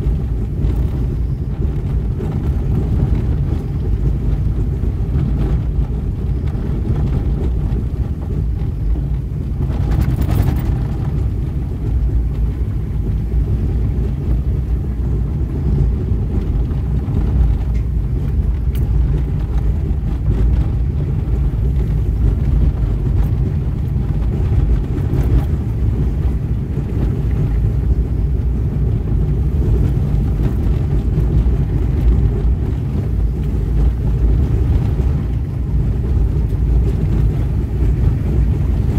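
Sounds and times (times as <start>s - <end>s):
car interior rumble: 0.0s - 38.9s.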